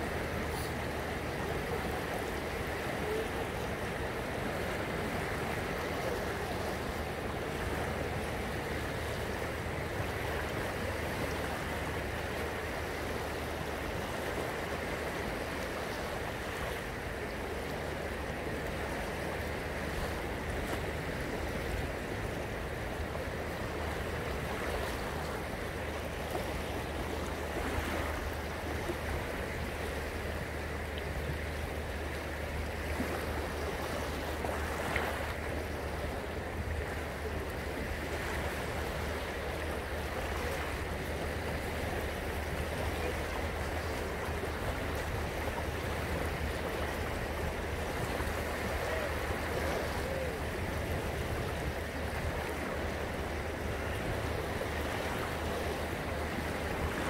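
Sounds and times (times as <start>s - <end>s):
waves lapping on sandy beach: 0.0s - 57.0s.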